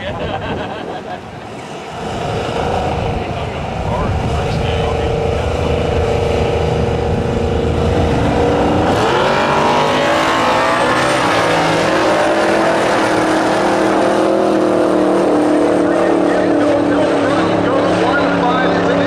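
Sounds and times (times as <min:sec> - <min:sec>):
pickup engine rumbling and accelerating: 0:00.0 - 0:19.0.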